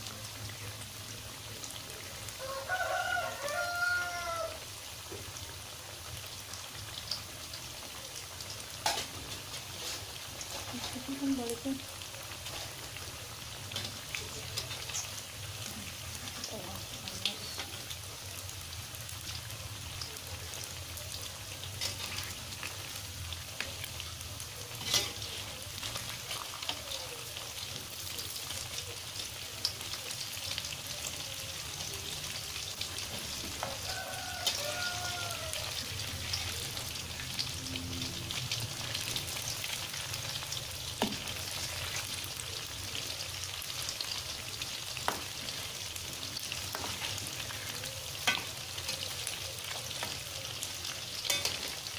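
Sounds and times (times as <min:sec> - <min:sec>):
food deep-frying in hot oil: 0:00.0 - 0:51.9.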